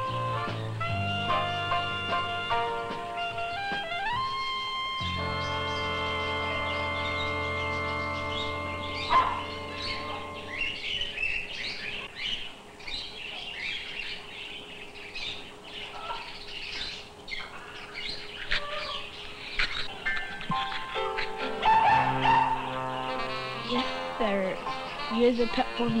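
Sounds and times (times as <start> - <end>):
small birds chirping: 3.4 - 26.0.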